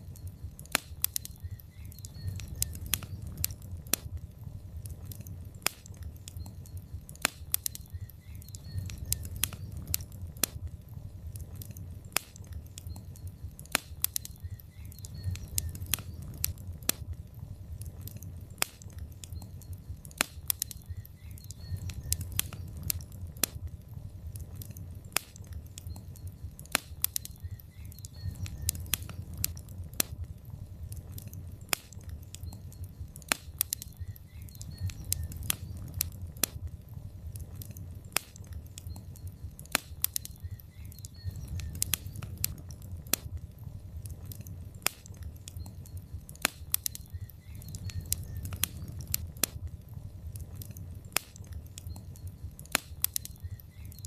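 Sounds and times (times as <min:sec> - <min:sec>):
log fire crackling: 0:00.0 - 0:54.0.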